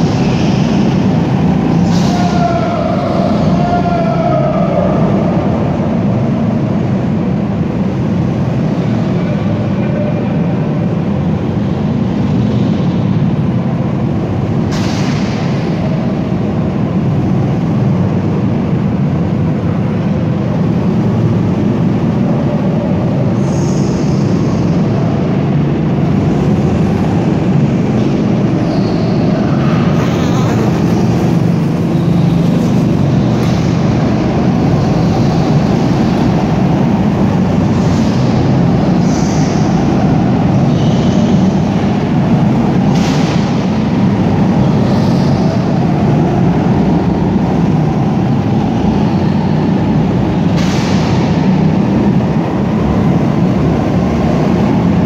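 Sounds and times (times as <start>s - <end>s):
go-kart engines droning: 0.0s - 55.0s.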